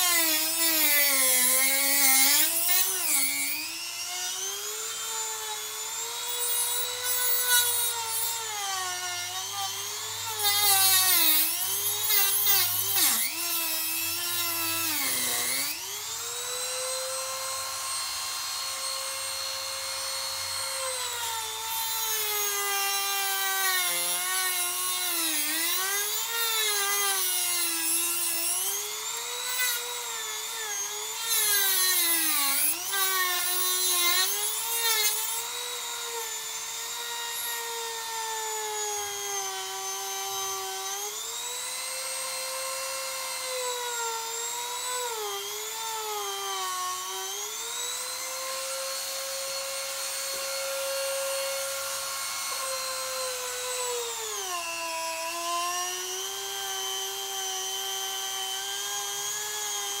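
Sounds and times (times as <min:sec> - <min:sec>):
rotary tool motor whine: 0:00.0 - 1:00.0.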